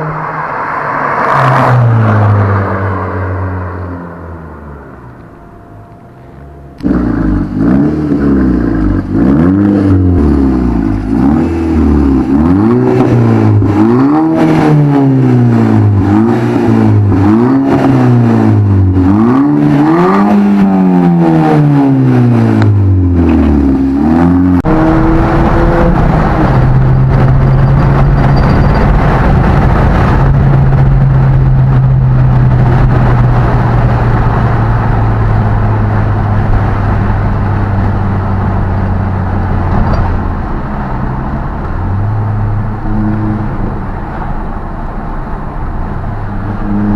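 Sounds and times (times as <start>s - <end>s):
car engine revving: 0.0s - 46.9s
rushing noise: 0.0s - 46.9s.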